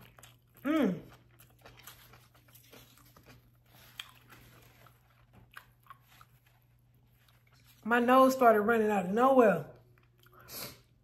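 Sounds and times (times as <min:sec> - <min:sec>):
wet chewing sounds: 0:00.0 - 0:07.9, 0:09.8 - 0:11.0.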